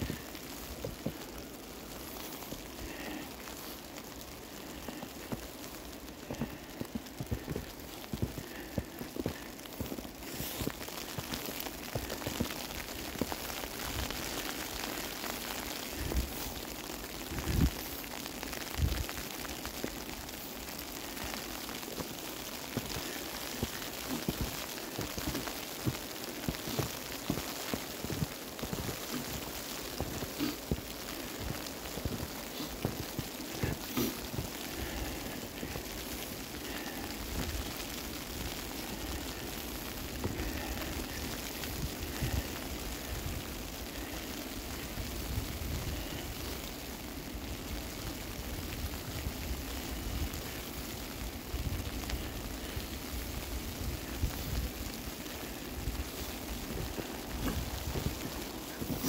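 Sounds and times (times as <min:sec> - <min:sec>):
heavy wet snow falling: 0:00.0 - 0:59.0.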